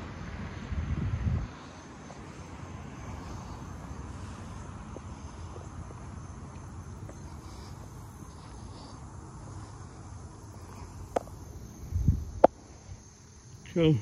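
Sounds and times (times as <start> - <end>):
high-pitched insect drone: 1.5 - 14.0.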